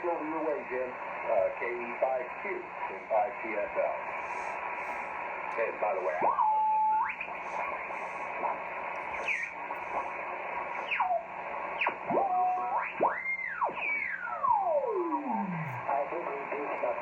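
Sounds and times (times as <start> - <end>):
radio band hiss: 0.0 - 17.0.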